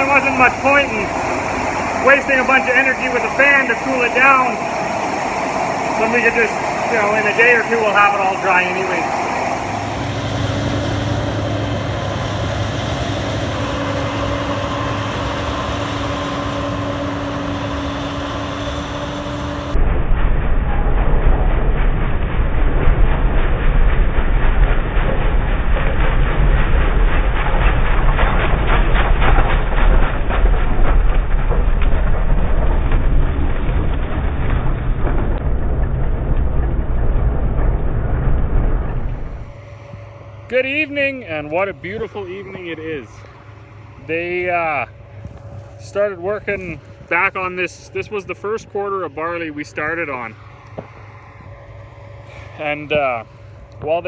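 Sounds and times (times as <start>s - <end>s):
rushing air: 0.0s - 48.6s, 49.8s - 54.0s
farm machinery running: 0.0s - 54.0s
large fan drone: 0.0s - 54.0s.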